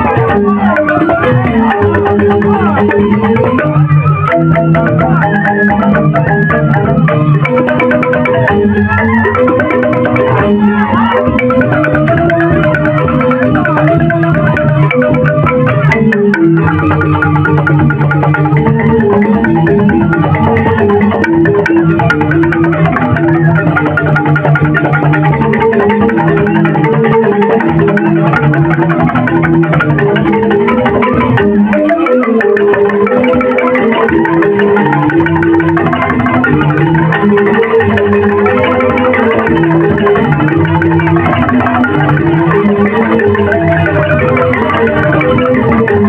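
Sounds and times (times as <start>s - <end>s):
bamboo xylophones playing fast: 0.0s - 46.0s.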